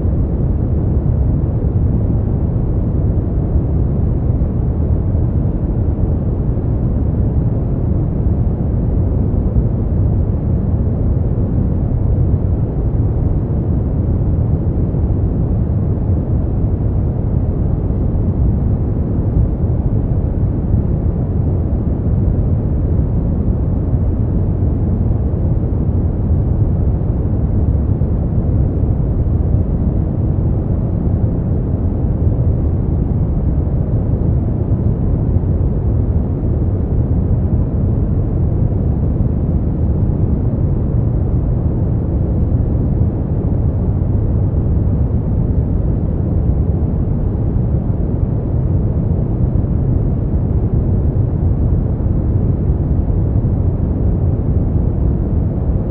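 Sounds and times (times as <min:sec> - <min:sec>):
deep steady brown noise: 0:00.0 - 0:55.9.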